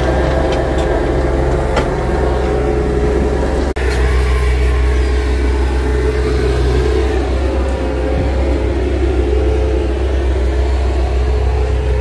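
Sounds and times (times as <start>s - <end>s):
loader engine droning: 0.0s - 12.0s.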